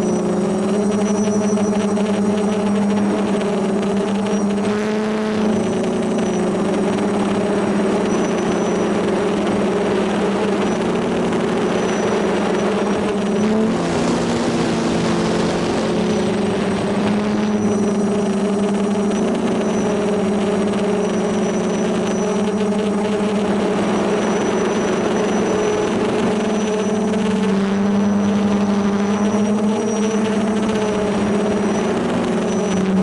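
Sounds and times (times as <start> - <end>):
drone motors and propellers humming: 0.0 - 33.0.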